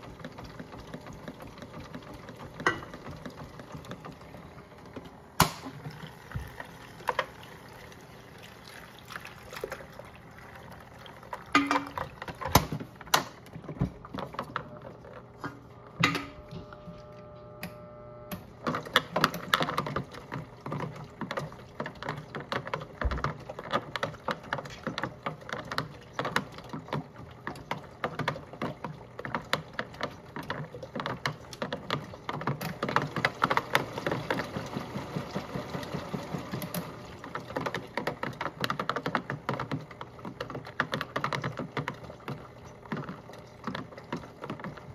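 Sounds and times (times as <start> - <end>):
water sloshing in drum: 0.0 - 16.2, 18.6 - 44.9
motor hum: 0.0 - 44.9.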